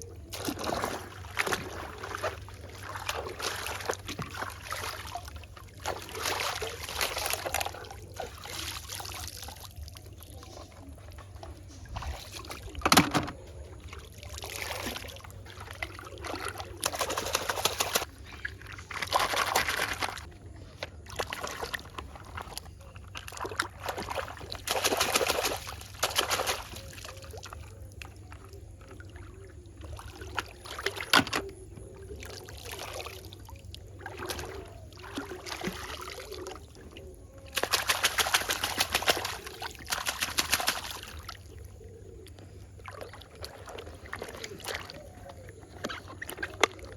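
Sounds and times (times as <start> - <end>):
water sloshing and splashing: 0.0 - 46.9.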